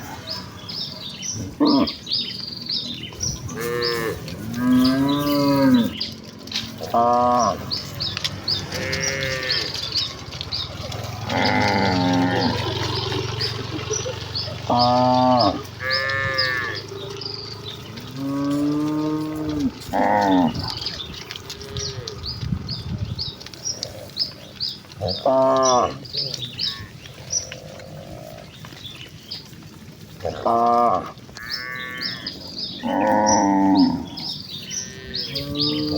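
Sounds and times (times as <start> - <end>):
small birds chirping: 0.0 - 35.9
cattle mooing: 1.3 - 2.1, 3.2 - 22.4, 23.8 - 28.8, 30.2 - 35.9.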